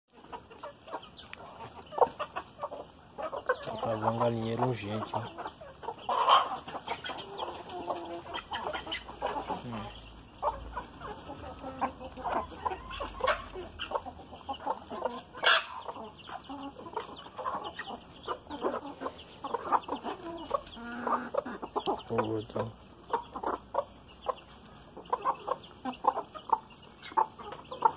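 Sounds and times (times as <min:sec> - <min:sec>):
chickens clucking: 0:00.1 - 0:27.9.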